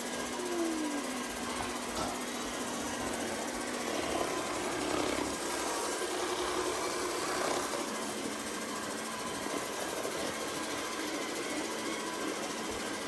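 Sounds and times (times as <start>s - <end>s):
robot vacuum motor and brushes humming: 0.0s - 13.0s.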